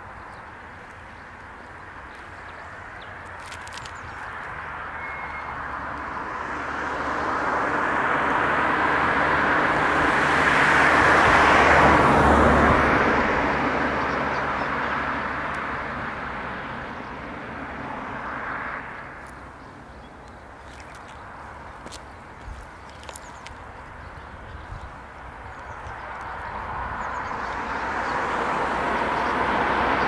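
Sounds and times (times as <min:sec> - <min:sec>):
motor vehicle passing by: 0:02.5 - 0:30.0.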